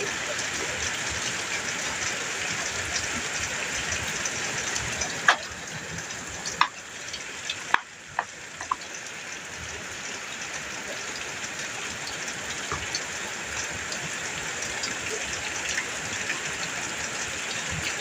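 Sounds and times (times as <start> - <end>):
rain on a metal roof: 0.0 - 18.0.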